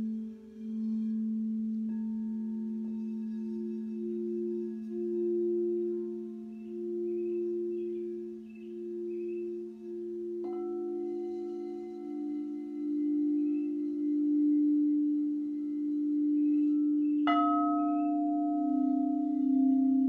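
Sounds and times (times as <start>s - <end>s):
singing bowls ringing: 0.0s - 20.0s
singing bowl struck: 1.0s - 20.0s.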